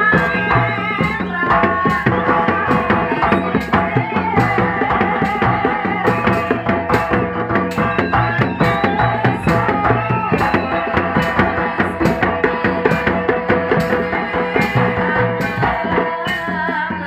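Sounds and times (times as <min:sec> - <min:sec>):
hand drums beating: 0:00.0 - 0:17.0
wavering gamelan melody: 0:00.0 - 0:17.0.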